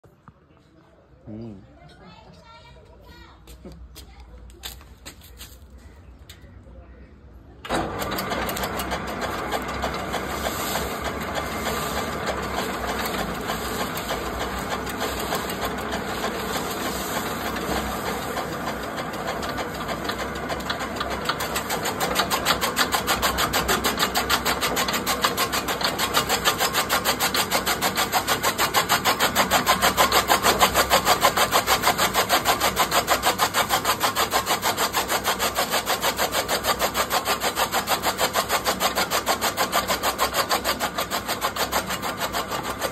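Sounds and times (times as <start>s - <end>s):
chaff cutter whirring: 7.6s - 42.9s
blades chopping cane: 8.4s - 42.9s.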